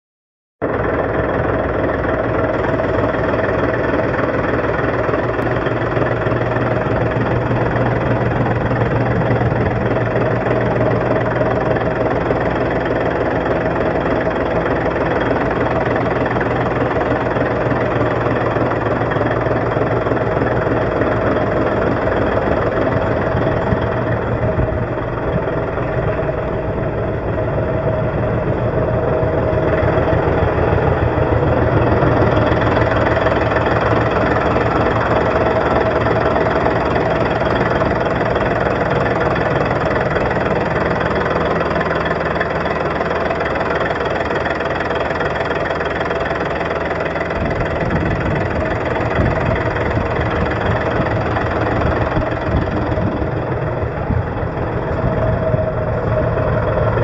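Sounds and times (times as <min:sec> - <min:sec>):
diesel truck engine idling: 0:00.6 - 0:57.0.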